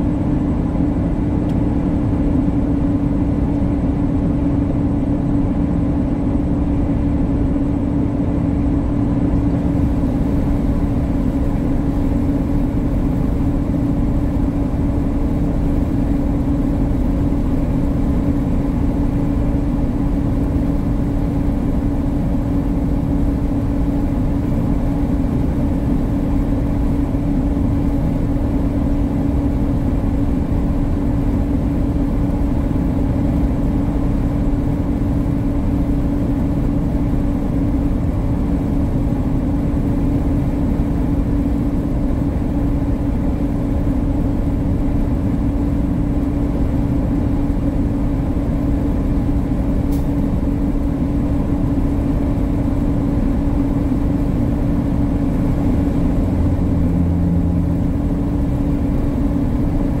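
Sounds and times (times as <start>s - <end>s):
constant hum tone: 0.0s - 60.0s
road rumble: 0.0s - 60.0s
truck engine drone: 0.0s - 60.0s.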